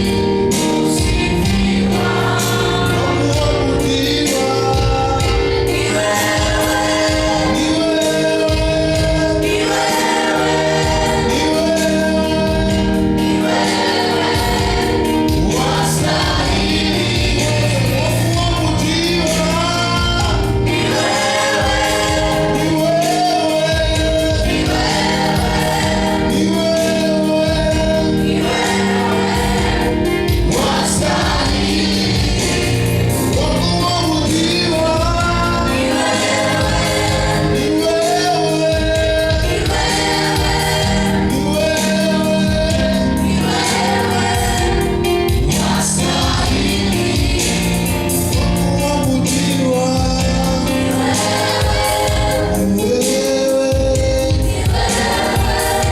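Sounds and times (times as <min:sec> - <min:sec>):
choir singing gospel: 0:00.0 - 0:55.9
steady beat: 0:00.0 - 0:55.9.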